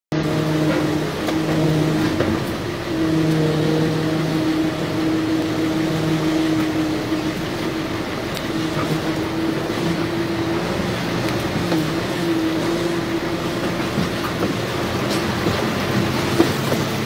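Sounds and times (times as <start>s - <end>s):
constant rushing noise: 0.1s - 17.0s
engine running with steady hum: 0.1s - 17.0s.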